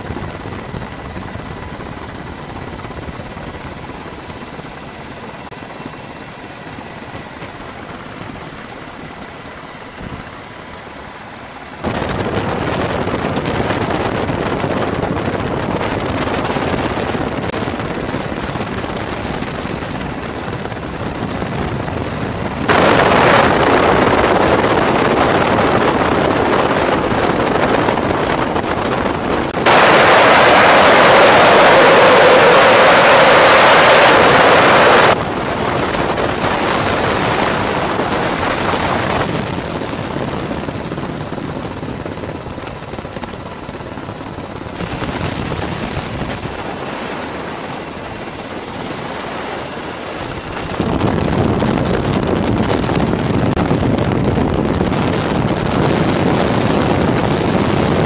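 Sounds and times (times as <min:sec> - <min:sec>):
faint steady whine: 0:00.0 - 0:58.0
helicopter engine and rotor: 0:00.0 - 0:58.0.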